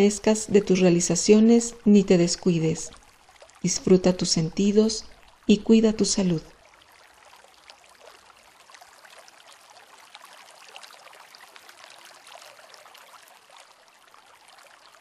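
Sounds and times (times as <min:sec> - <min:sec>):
trickling water drips: 0:00.0 - 0:15.0.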